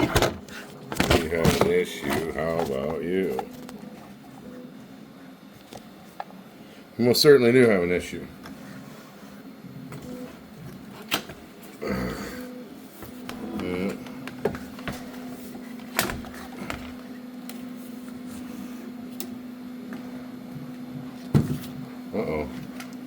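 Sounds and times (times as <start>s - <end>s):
printer humming: 0.0s - 23.0s.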